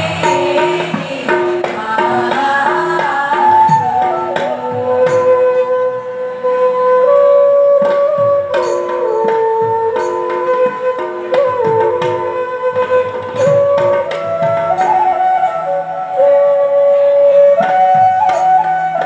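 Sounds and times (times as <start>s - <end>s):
devotional melody in held notes: 0.0s - 19.0s
hand drum strokes: 0.0s - 19.0s.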